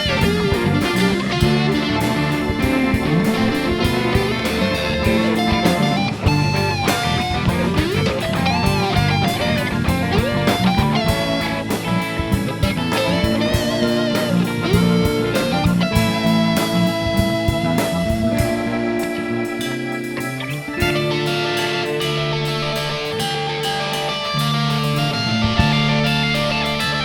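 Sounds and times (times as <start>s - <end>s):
bass guitar: 0.0s - 27.0s
drums: 0.0s - 27.0s
electric guitar bending pitch: 0.0s - 27.0s
organ: 0.0s - 27.0s.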